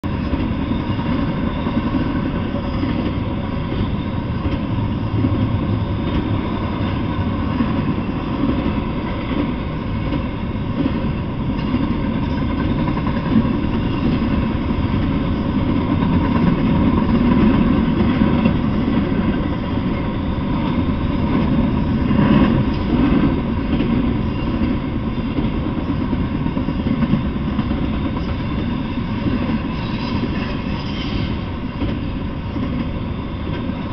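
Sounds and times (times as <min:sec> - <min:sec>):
freight train wheels rumbling: 0:00.0 - 0:33.9.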